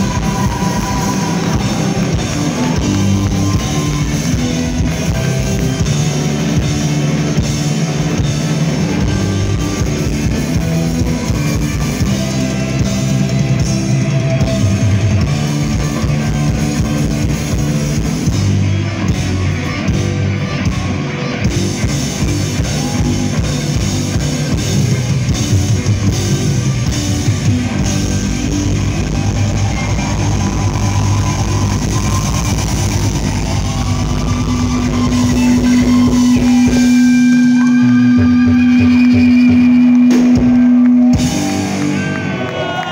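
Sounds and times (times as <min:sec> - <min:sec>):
heavy metal band playing live: 0:00.0 - 0:42.9.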